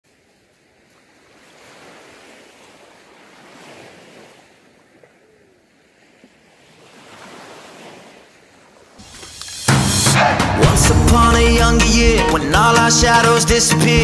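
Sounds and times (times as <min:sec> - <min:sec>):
sea waves washing onto beach: 0:00.1 - 0:13.2.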